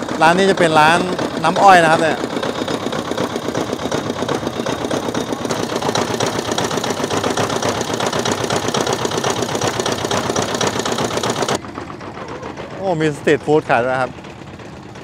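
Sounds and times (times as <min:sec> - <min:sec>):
juice crusher mechanical clatter: 0:00.0 - 0:15.0.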